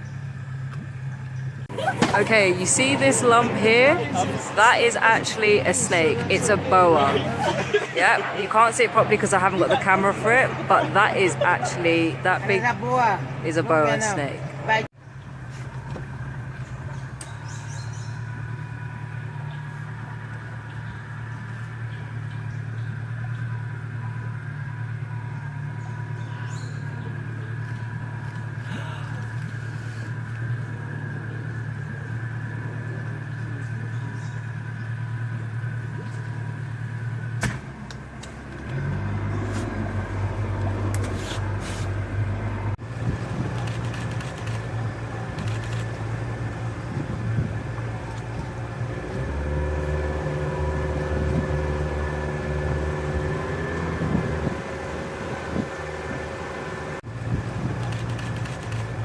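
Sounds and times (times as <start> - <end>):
boat motor running: 0.0 - 59.0.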